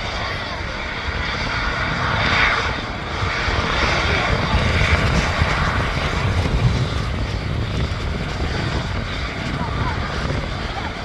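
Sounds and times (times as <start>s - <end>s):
jet engines rushing: 0.0s - 11.0s
wind buffeting microphone: 0.0s - 11.0s.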